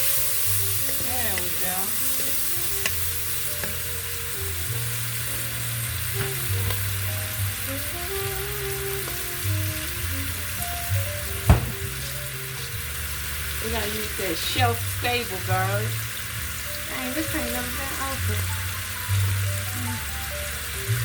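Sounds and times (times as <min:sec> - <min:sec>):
food sizzling in a pan: 0:00.0 - 0:21.0
music playing: 0:00.0 - 0:21.0.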